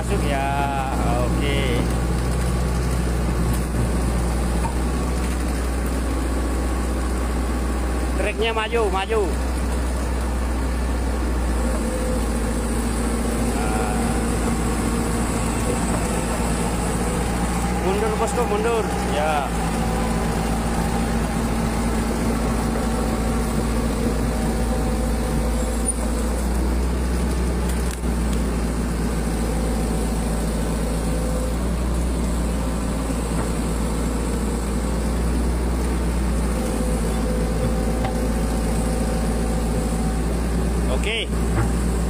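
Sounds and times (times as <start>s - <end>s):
excavator diesel engine drone: 0.0s - 42.0s.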